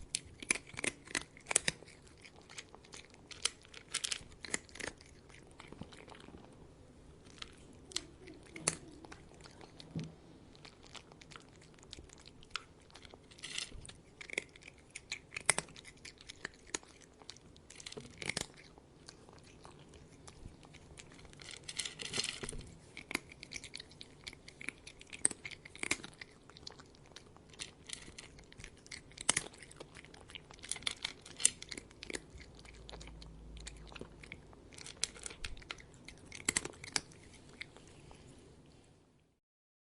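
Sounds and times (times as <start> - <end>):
cat crunching food: 0.0 - 38.5.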